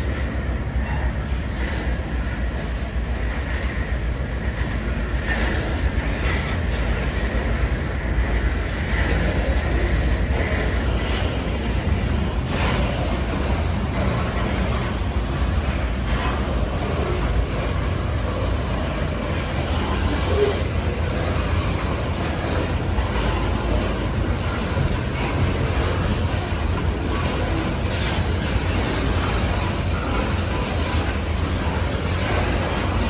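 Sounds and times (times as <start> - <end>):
freight cars rumbling on rails: 0.0 - 33.0
rail joint clicks: 0.0 - 33.0.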